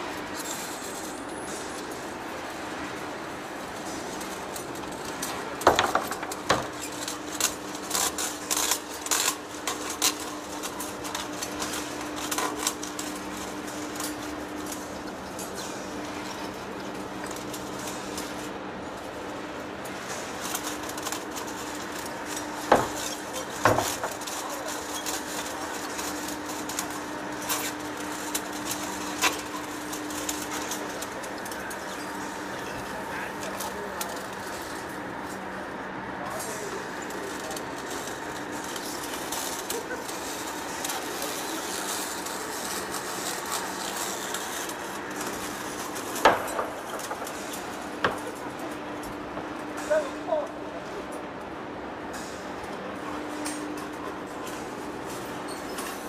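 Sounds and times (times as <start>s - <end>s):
steady machine hum: 0.0s - 55.5s.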